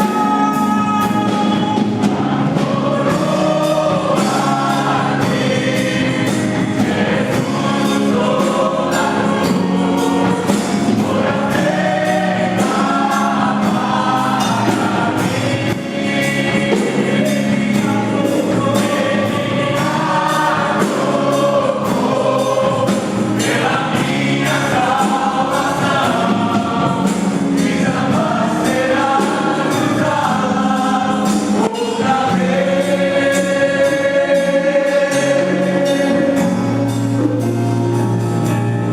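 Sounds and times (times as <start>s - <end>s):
choir singing with band: 0.0s - 38.9s.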